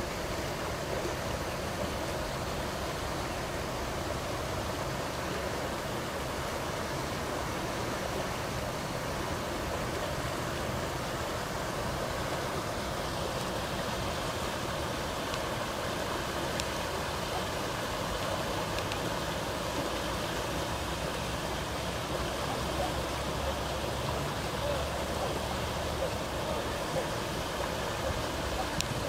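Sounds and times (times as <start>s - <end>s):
river rushing in flood: 0.0s - 29.0s.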